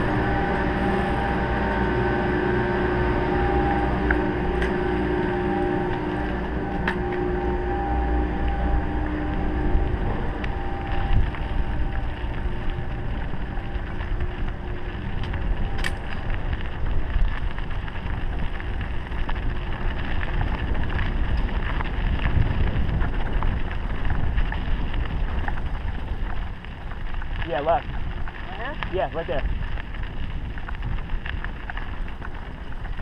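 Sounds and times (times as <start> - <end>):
wind rumbling on microphone: 0.0 - 33.0
tyres crunching on gravel: 3.5 - 33.0.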